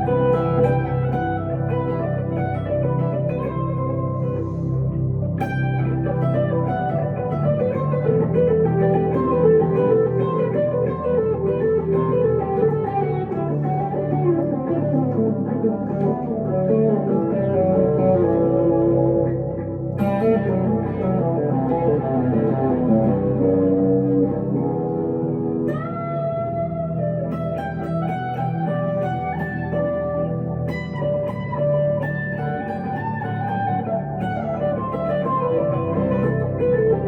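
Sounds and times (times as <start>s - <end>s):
electric guitar melody: 0.0s - 37.0s
sharply picked guitar chord: 0.0s - 37.0s.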